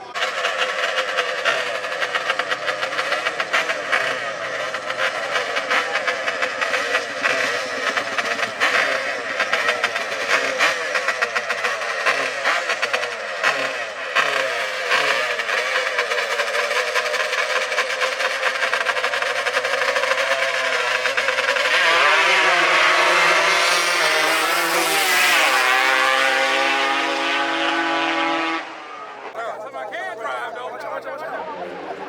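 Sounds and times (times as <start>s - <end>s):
racing engines at full throttle: 0.0s - 32.0s.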